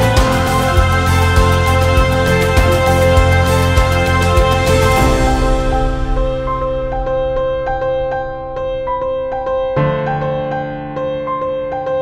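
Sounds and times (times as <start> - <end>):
gentle keyboard music: 0.0 - 12.0.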